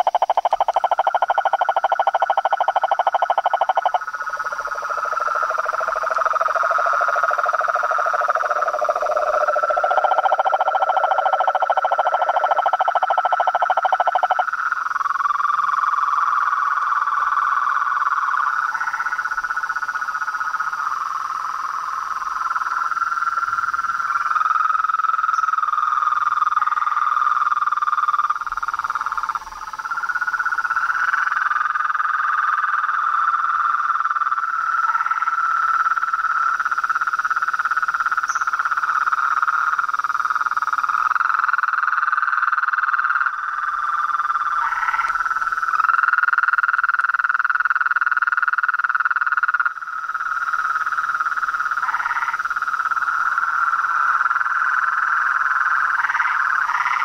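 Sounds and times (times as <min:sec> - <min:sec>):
chorus of frogs trilling: 0:00.0 - 0:57.0
frog chirps: 0:00.0 - 0:57.0.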